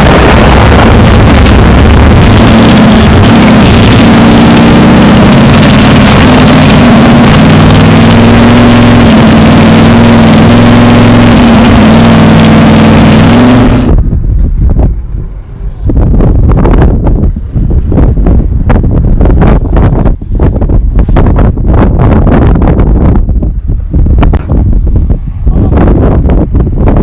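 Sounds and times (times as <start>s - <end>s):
truck engine at high revs: 0.0s - 27.0s
wind and road noise: 0.0s - 27.0s
wind buffeting microphone: 0.0s - 27.0s.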